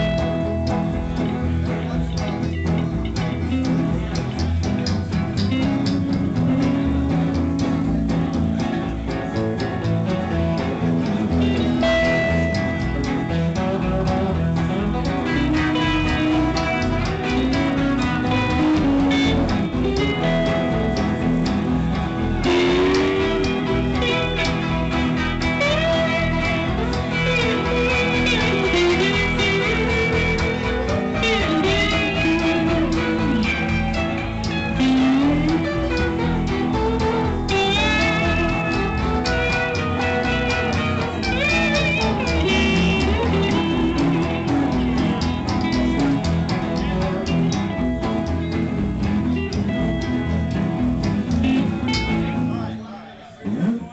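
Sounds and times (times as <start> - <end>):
lead guitar bending notes: 0.0 - 53.9
live blues band: 0.0 - 53.9.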